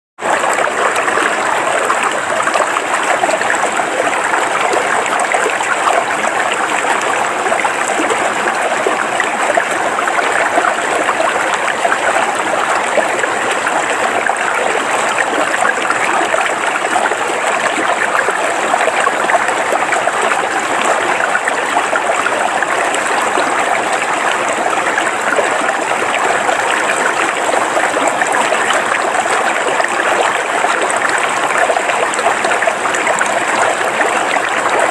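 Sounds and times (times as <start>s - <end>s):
river water flowing over rocks: 0.2s - 34.9s.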